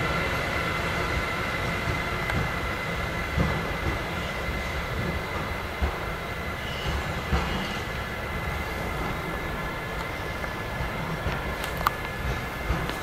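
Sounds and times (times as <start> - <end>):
electric locomotive rumbling: 0.0 - 13.0.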